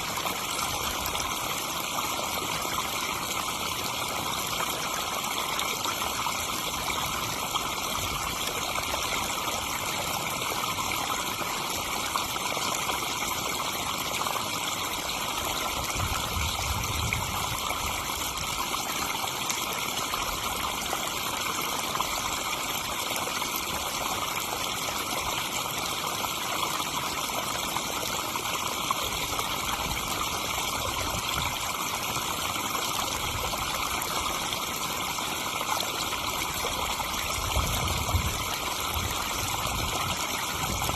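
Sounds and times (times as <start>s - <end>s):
waterfall splashing into pond: 0.0s - 40.9s.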